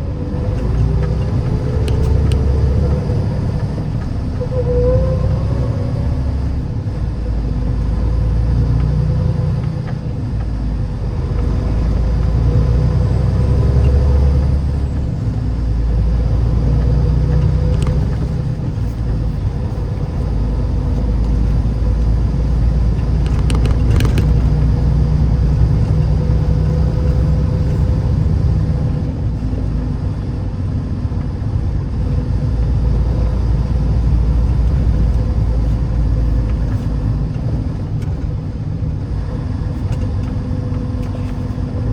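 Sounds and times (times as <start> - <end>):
vehicle engine and tyres rumbling: 0.0 - 41.9.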